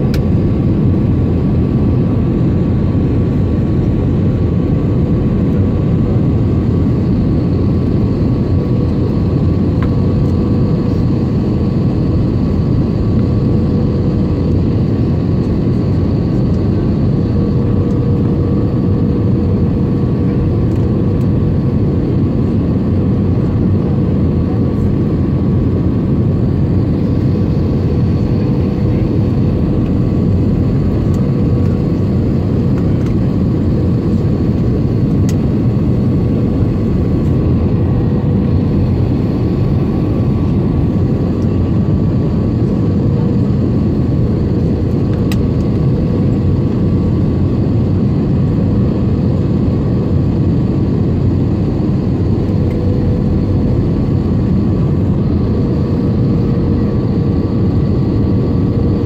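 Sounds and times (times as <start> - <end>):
jet engine and airflow noise: 0.0 - 59.0.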